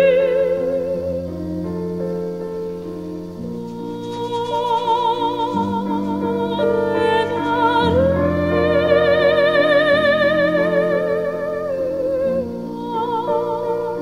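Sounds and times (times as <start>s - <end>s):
slow vibrato melody over chords: 0.0s - 14.0s.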